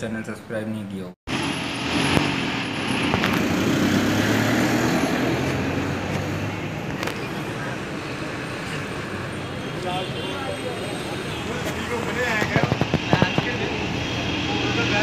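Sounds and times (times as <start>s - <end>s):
street noise: 0.0s - 15.0s
vehicle engines humming: 1.3s - 15.0s.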